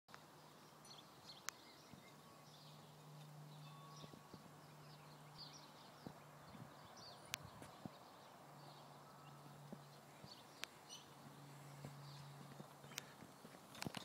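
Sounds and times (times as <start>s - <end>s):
faint steady car hum: 0.1s - 14.0s.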